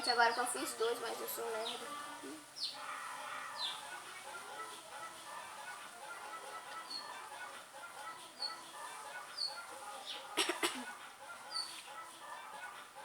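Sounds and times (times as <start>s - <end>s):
sharp cluck-like bird calls: 0.0s - 13.0s.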